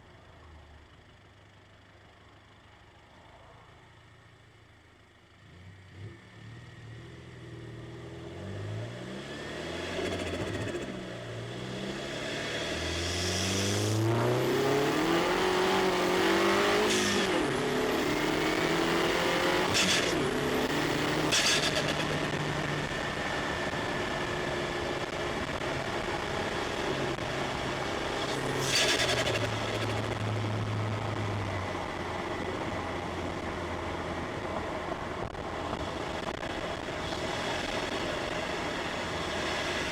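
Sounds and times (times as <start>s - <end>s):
car engine accelerating: 7.8s - 39.9s.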